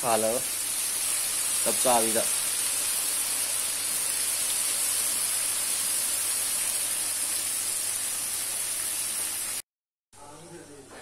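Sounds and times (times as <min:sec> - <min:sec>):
meat sizzling in oil: 0:00.0 - 0:09.6.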